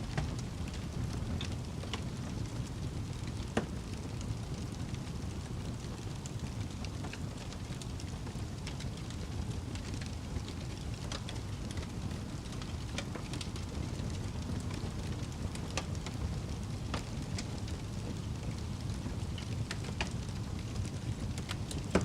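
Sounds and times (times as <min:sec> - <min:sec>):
fire crackling and snapping: 0:00.0 - 0:22.0.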